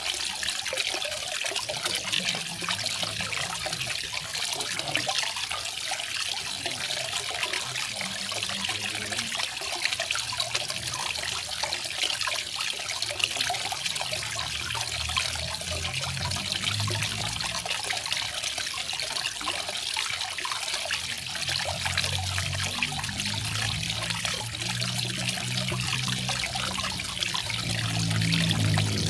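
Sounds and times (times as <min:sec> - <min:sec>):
low rumble of falling water: 0:00.0 - 0:29.0
small waterfall trickling and splashing: 0:00.0 - 0:29.0.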